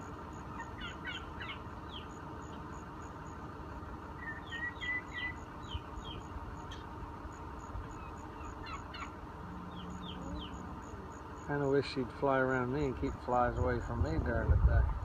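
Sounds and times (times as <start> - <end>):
small birds chirping: 0.0 - 13.8
steady low rumble: 0.0 - 15.0.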